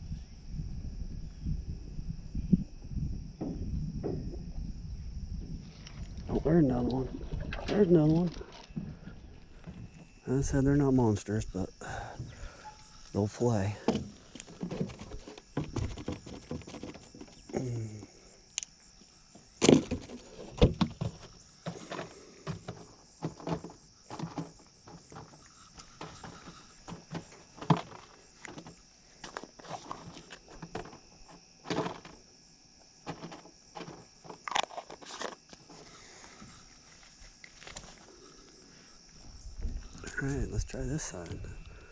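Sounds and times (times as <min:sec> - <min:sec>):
insect chirring: 0:00.0 - 0:41.9.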